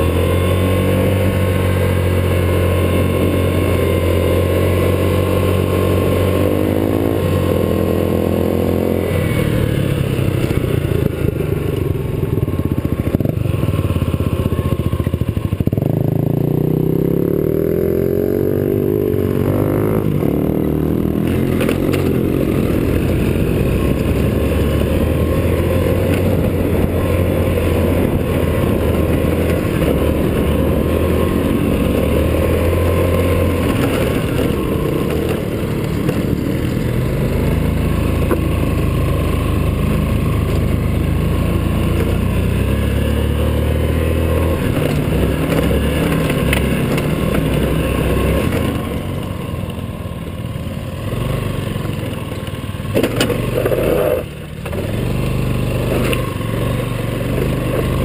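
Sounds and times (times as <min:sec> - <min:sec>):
scooter engine running hard: 0:00.0 - 0:58.0.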